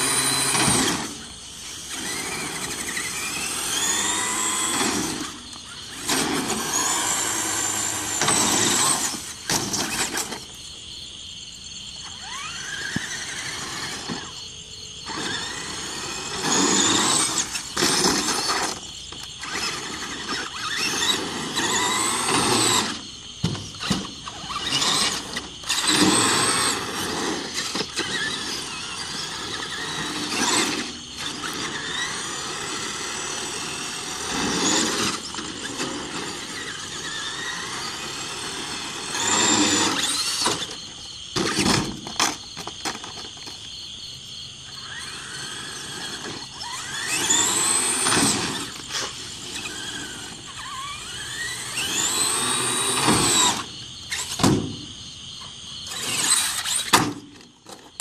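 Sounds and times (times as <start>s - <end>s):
electric motor whining: 0.0s - 10.6s, 12.0s - 41.6s, 44.7s - 54.4s, 55.8s - 57.0s.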